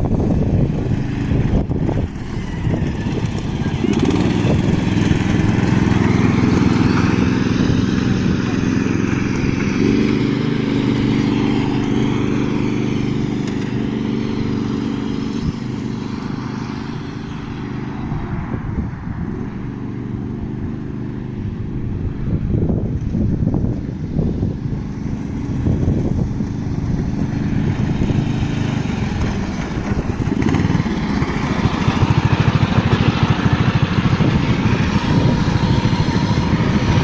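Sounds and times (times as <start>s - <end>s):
riding lawn mower engine running: 0.0s - 37.0s.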